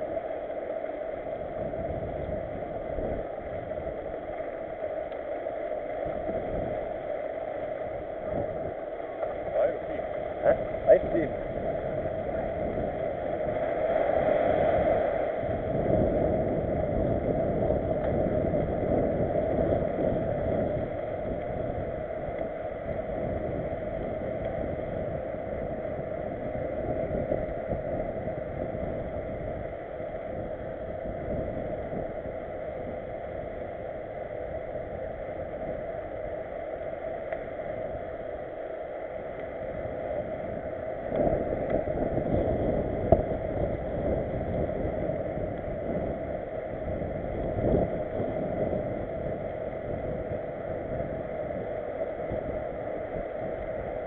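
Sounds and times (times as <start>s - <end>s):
bike tyres rolling over cobbles: 0.0s - 54.0s
wind on microphone: 0.0s - 54.0s.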